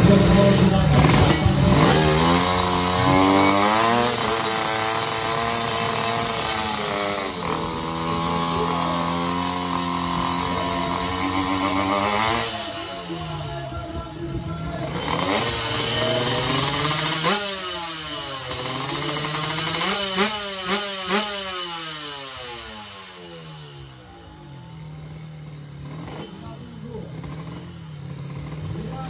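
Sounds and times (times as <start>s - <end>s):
two-stroke engine revving: 0.0s - 29.0s.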